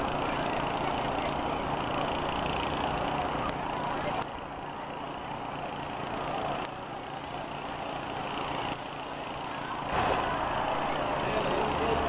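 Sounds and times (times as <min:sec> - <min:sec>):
bus engines revving: 0:00.0 - 0:12.0.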